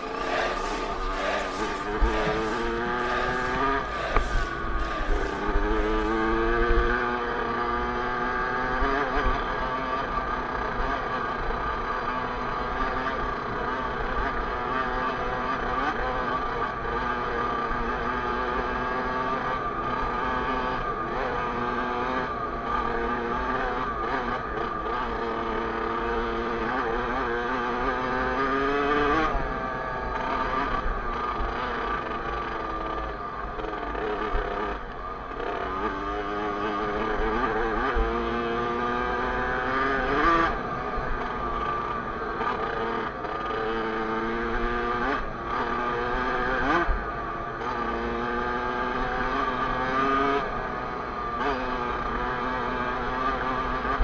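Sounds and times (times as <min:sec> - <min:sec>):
two-stroke motocross bike revving: 0:00.0 - 0:54.0.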